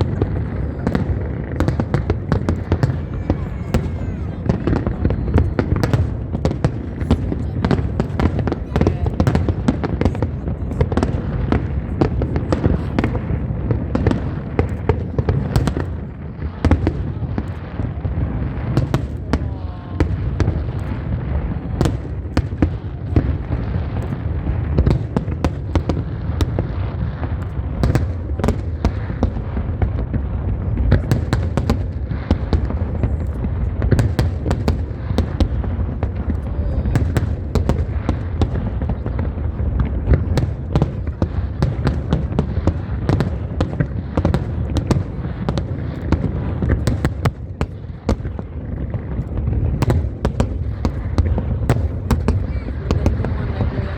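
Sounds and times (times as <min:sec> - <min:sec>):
fireworks booms and cracks: 0:00.0 - 0:53.9.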